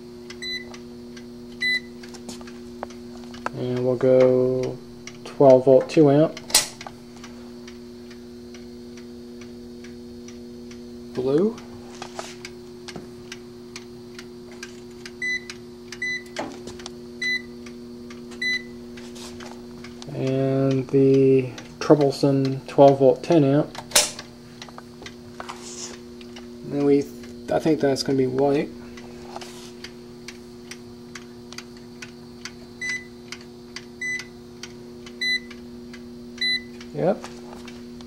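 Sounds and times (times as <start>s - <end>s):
clamp meter beeping: 0.0s - 11.7s, 12.4s - 16.4s, 17.0s - 25.2s, 29.8s - 38.0s
transformer hum: 0.0s - 38.0s
timer ticking: 0.3s - 11.7s, 12.4s - 16.3s, 17.2s - 25.2s, 29.8s - 37.0s.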